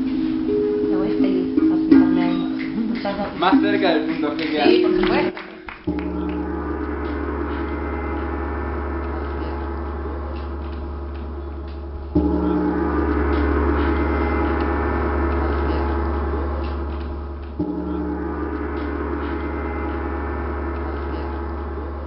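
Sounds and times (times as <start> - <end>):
gong ringing: 0.0 - 22.0
low drone: 0.0 - 22.0.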